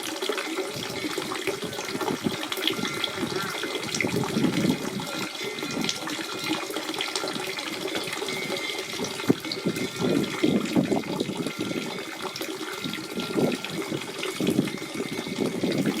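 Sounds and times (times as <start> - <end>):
spring water running and gurgling: 0.0 - 16.0.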